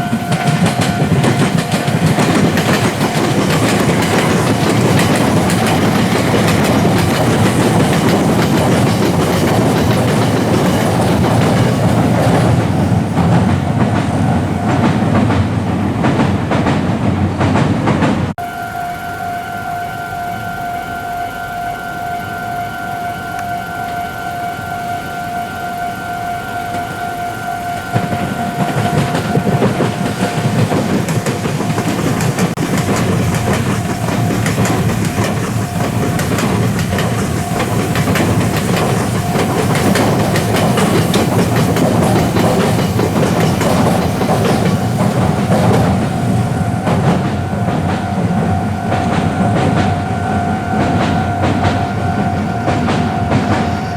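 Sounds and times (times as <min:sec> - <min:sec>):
level crossing warning bell: 0:00.0 - 0:16.8, 0:18.4 - 0:53.9
electric train passing: 0:00.0 - 0:53.9
train wheels clacking on rails: 0:00.0 - 0:53.9.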